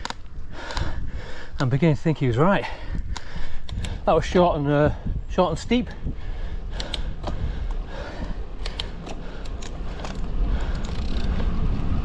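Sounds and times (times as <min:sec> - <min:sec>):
small bike clicks and ticks: 0:00.0 - 0:04.4, 0:05.6 - 0:12.0
wind rumbling on microphone: 0:00.0 - 0:12.0.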